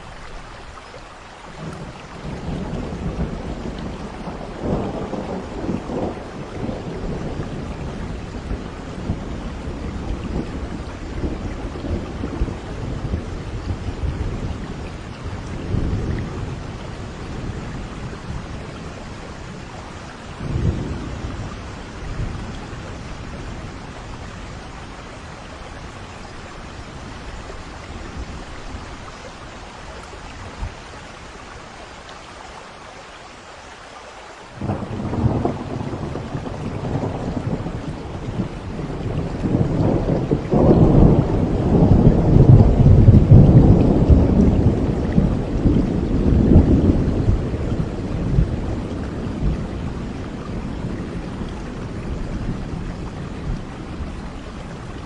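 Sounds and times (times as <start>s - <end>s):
steady rain: 0.0s - 55.0s
thunder rumbling: 1.6s - 30.9s, 34.6s - 55.0s.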